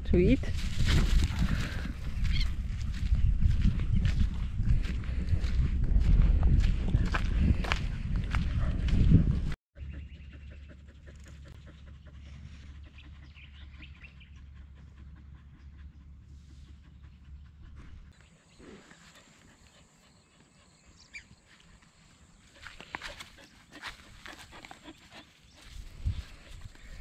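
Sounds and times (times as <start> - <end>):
dogs panting: 1.2 - 27.0.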